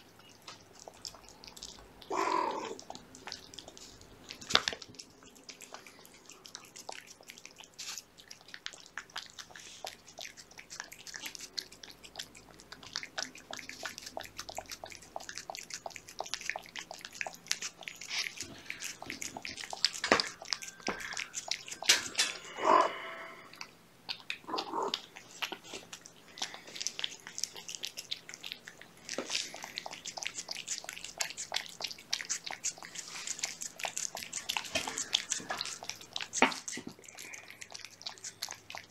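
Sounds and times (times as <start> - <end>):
cats chewing and lapping: 0.0 - 38.9.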